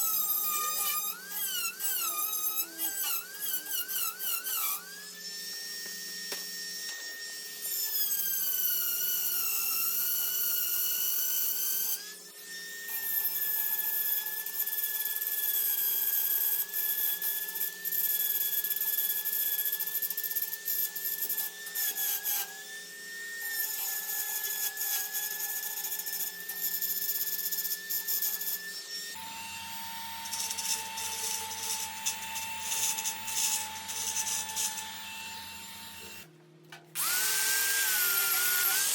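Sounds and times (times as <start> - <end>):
rotary grinder whining on metal: 0.0 - 36.3, 37.0 - 38.9.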